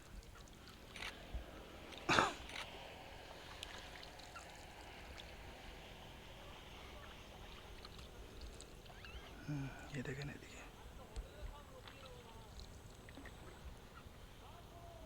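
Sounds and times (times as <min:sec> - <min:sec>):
rowboat water sounds: 0:00.0 - 0:15.0.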